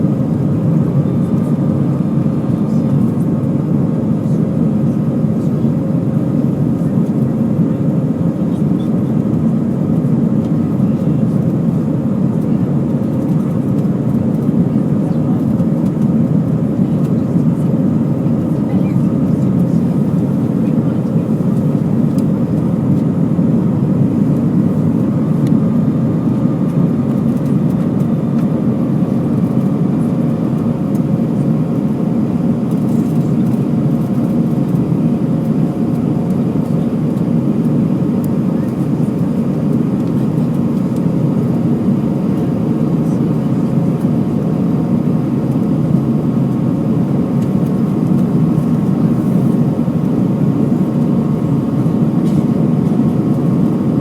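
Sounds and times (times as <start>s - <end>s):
airplane cabin airflow rush: 0.0s - 54.0s
faint engine hum: 0.0s - 54.0s.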